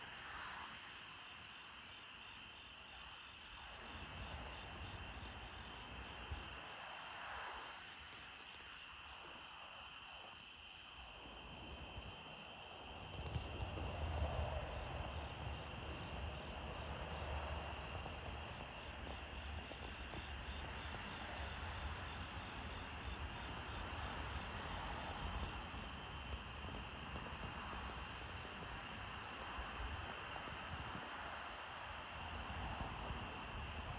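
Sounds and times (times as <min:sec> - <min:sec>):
crickets and insects trilling: 0:00.0 - 0:33.9.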